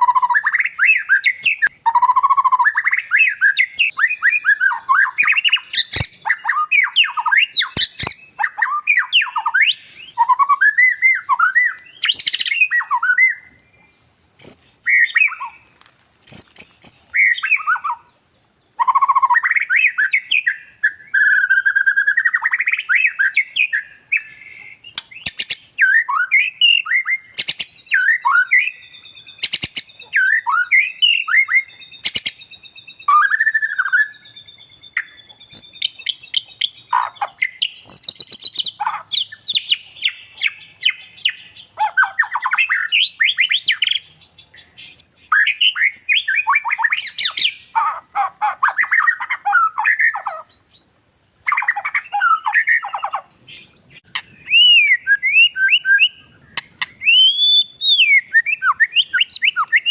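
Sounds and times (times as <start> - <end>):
magpie-robin singing: 0.0 - 13.6, 14.4 - 15.6, 16.3 - 18.1, 18.8 - 59.9.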